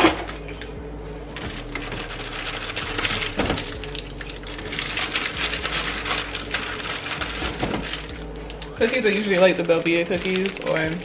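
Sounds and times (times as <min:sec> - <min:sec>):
plastic containers rattling: 0:01.4 - 0:11.0.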